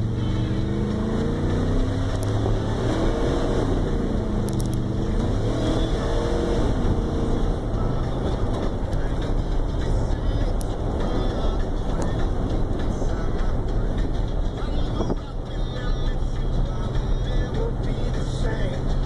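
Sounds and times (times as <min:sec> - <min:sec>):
truck engine accelerating: 0:00.0 - 0:19.0.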